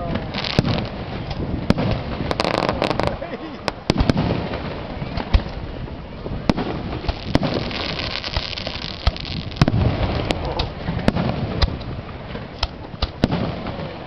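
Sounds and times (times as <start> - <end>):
crackling fireworks hiss: 0.0 - 14.0
fireworks bangs: 0.0 - 14.0.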